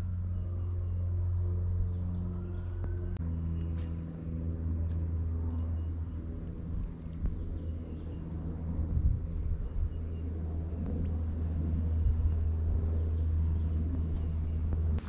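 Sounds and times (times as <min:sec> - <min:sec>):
motor drone: 0:00.0 - 0:15.0.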